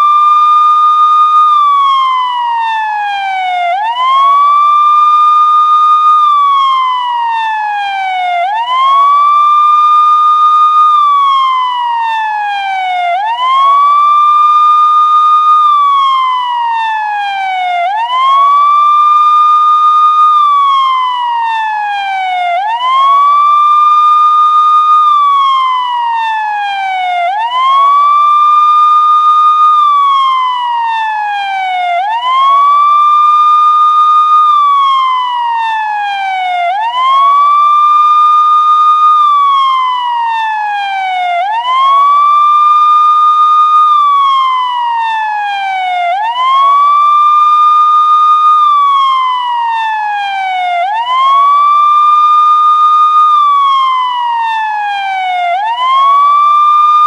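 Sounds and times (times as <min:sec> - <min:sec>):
police siren wailing: 0:00.0 - 0:57.0.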